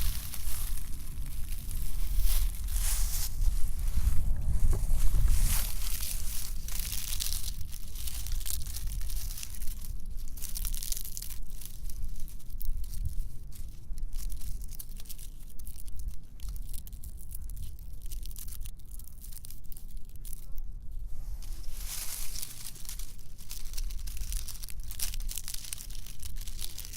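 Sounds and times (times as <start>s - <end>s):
dry leaves crunching: 0.0s - 26.9s.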